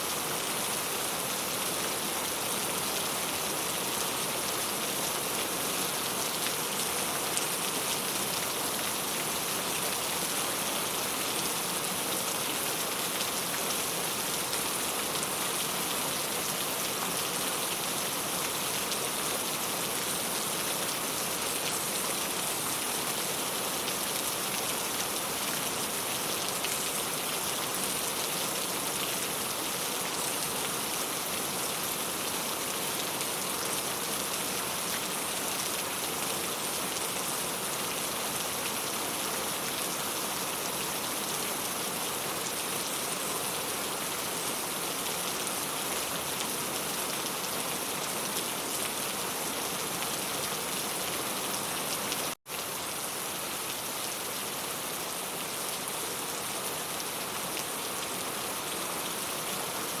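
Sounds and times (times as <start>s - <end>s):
rain on a tile roof: 0.0s - 60.0s.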